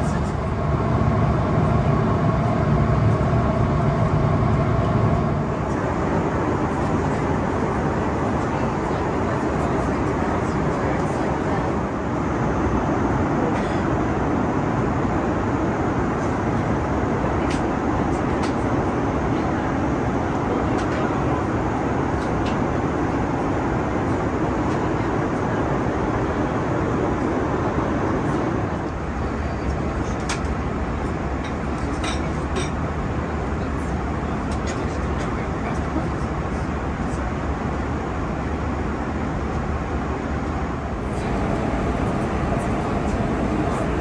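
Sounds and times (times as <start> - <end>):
airliner cabin engine rush: 0.0 - 44.0.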